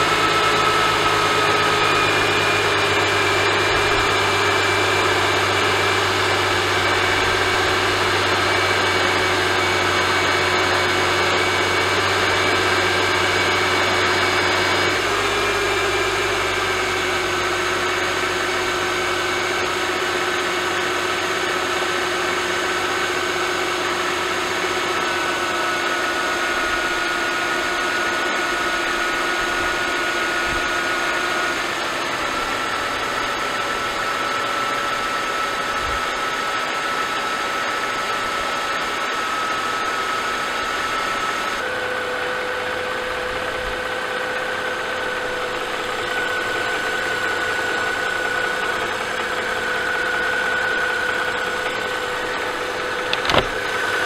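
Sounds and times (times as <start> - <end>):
car engine at fast idle: 0.0 - 54.0.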